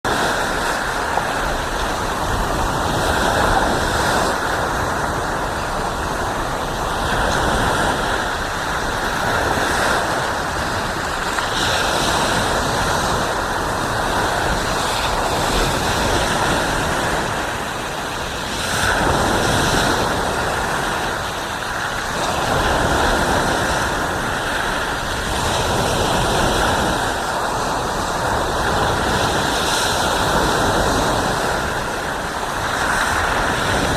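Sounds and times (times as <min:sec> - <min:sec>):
ocean surf on sandy beach: 0:00.0 - 0:33.9.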